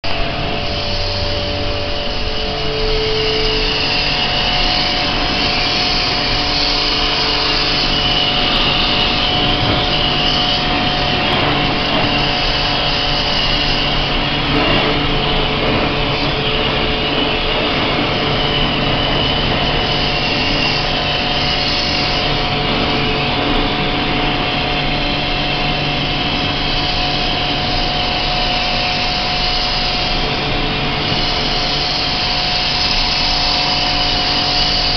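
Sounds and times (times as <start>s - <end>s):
pressure washer pump running: 0.0s - 34.9s
water jet hissing: 0.1s - 34.9s.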